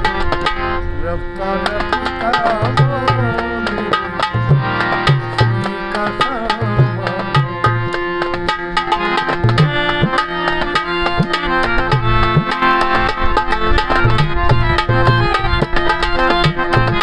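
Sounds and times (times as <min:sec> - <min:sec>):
sustained melodic notes: 0:00.0 - 0:17.0
tabla playing a rhythm: 0:00.0 - 0:17.0.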